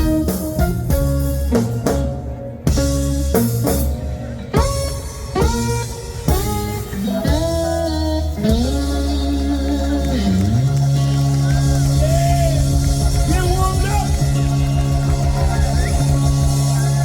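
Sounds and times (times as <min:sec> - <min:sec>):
electric guitar bent notes: 0:00.0 - 0:17.0
live blues band playing: 0:00.0 - 0:17.0.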